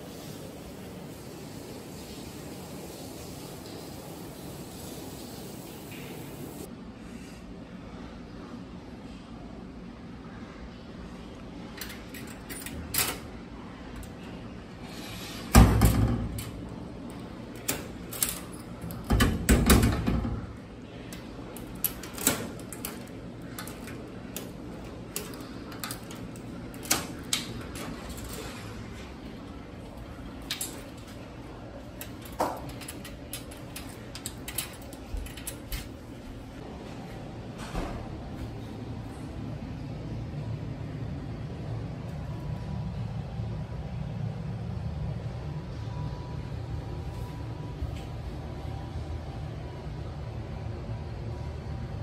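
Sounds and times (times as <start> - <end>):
steady low hum: 6.6 - 52.0.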